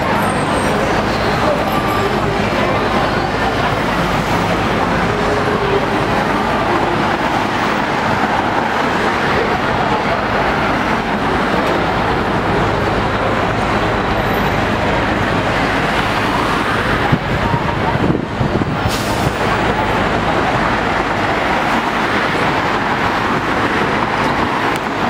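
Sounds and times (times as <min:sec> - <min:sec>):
idling engines: 0:00.0 - 0:25.0
passing cars: 0:00.0 - 0:25.0.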